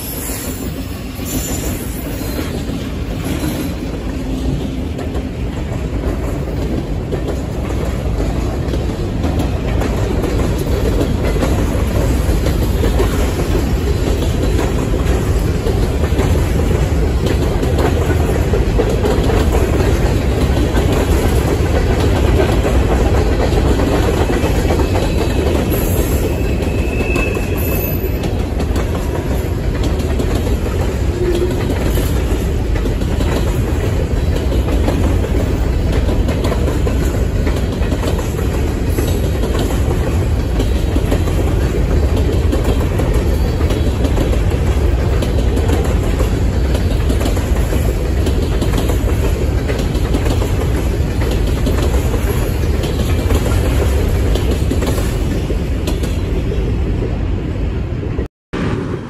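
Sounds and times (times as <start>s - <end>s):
freight cars rolling on rails: 0.0s - 59.0s.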